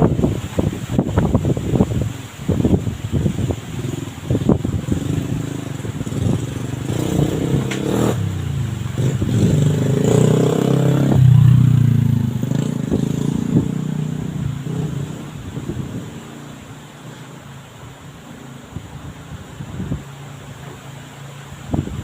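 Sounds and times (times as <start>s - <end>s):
vehicle engine passing by: 3.2s - 22.0s.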